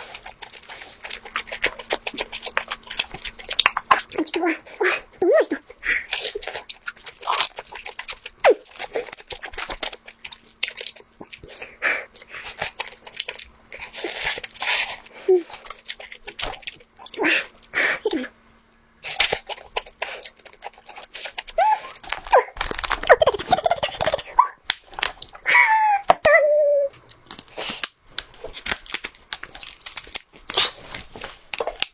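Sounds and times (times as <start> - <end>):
wet chewing sounds: 0.0 - 17.8, 18.9 - 25.4, 27.0 - 31.9.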